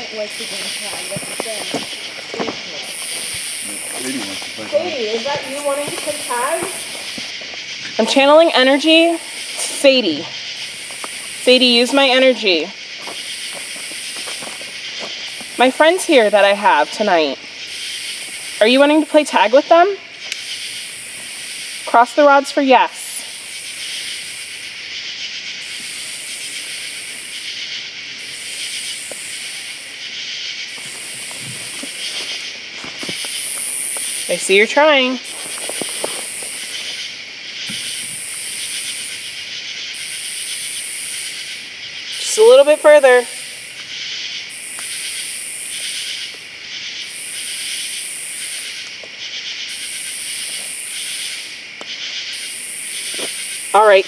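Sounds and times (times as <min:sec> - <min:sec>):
insects buzzing in bursts: 0:00.0 - 0:54.0
shrill insect background: 0:00.0 - 0:54.0.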